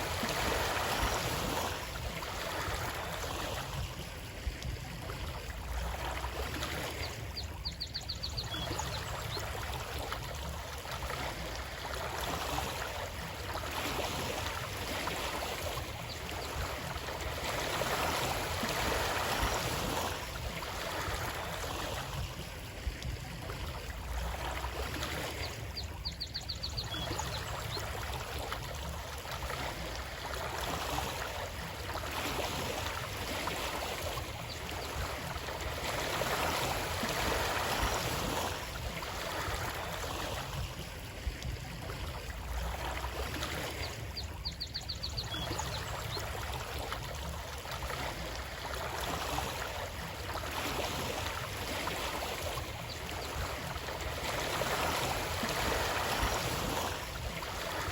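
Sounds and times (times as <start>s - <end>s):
stream rushing and gurgling: 0.0s - 57.9s.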